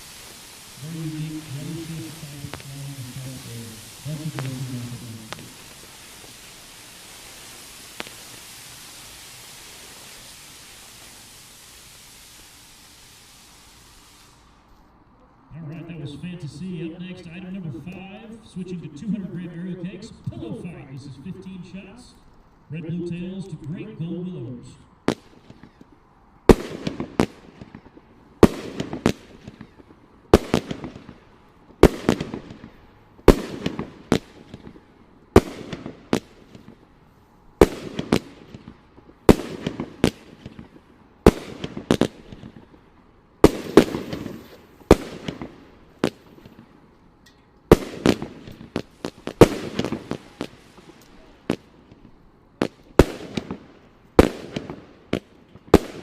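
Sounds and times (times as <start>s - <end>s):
firework bangs: 0.0s - 14.6s, 15.6s - 37.0s, 37.6s - 46.8s, 47.7s - 56.0s
firework crackling: 0.0s - 56.0s.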